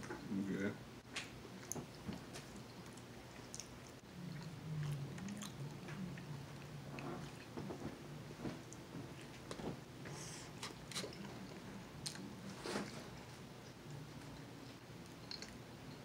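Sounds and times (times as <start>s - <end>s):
man chewing: 1.4s - 16.0s
low hum: 2.4s - 16.0s.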